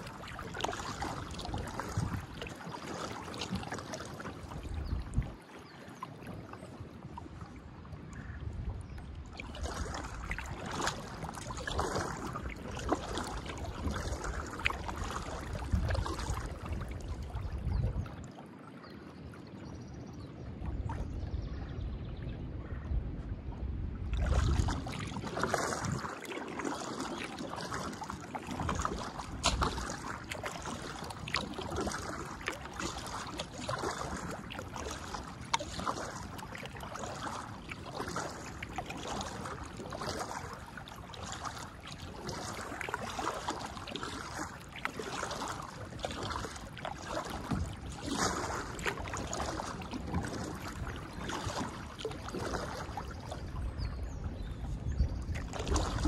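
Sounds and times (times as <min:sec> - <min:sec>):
kayak paddle splashing: 0:00.0 - 0:19.4, 0:24.0 - 0:56.0
water lapping at hull: 0:00.0 - 0:56.0.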